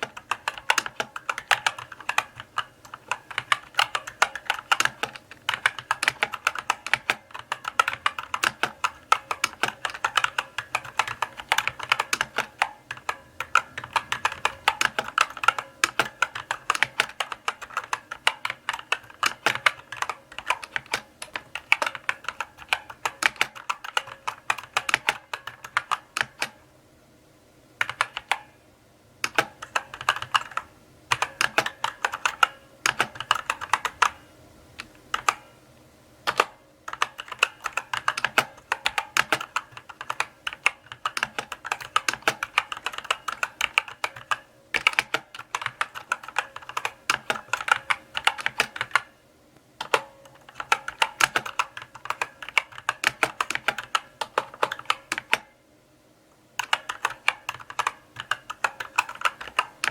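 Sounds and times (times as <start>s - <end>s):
mechanical keyboard key clicks: 0.0s - 26.6s, 29.2s - 34.2s, 36.3s - 49.1s, 49.8s - 55.5s, 56.6s - 59.9s.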